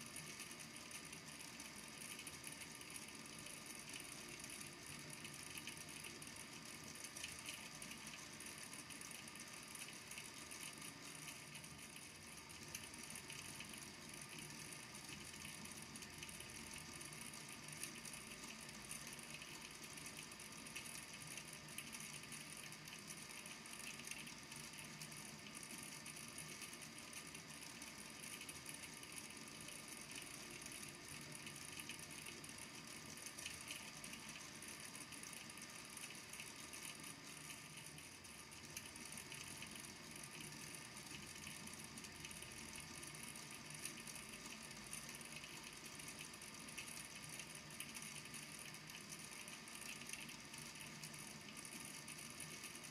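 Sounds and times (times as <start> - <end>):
small balls clicking in water tank: 0.0 - 52.9.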